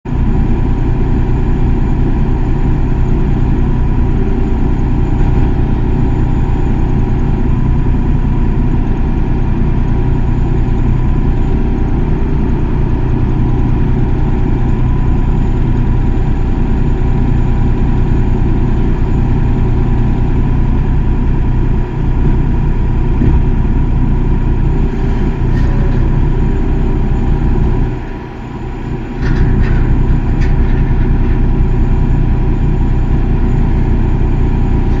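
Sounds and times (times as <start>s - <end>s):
excavator diesel engine running: 0.1s - 35.0s.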